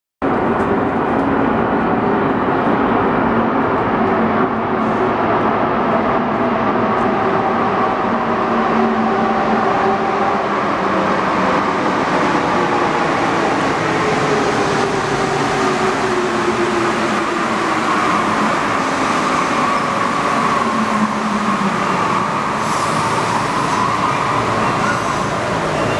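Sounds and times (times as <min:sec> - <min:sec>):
metro train rumbling: 0:00.2 - 0:25.9.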